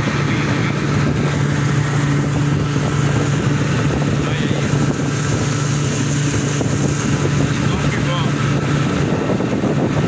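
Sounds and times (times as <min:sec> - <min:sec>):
outboard motor droning: 0:00.0 - 0:10.0
water rushing past hull: 0:00.0 - 0:10.0
wind buffeting microphone: 0:00.0 - 0:10.0.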